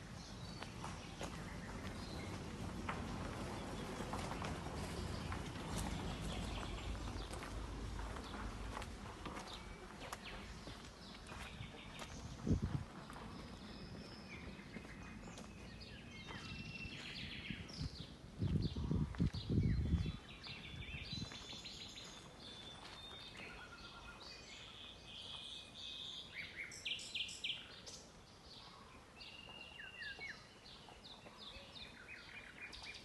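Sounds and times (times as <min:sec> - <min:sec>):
forest birds chirping: 0:00.0 - 0:33.0.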